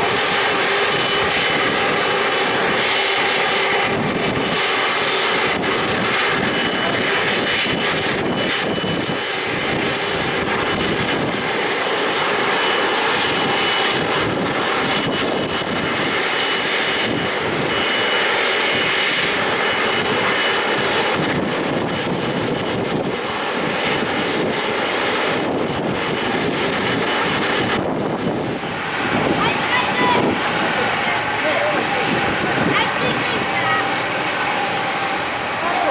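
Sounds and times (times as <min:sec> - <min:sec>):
high engine whine: 0:00.0 - 0:35.9
jet engines running: 0:00.0 - 0:35.9.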